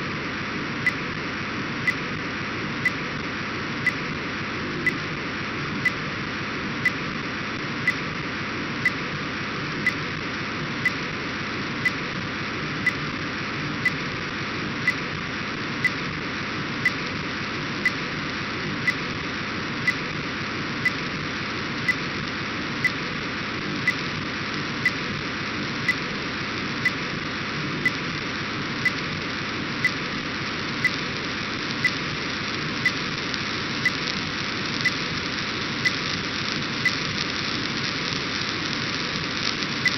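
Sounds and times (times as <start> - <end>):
steady data hiss: 0.0 - 39.9.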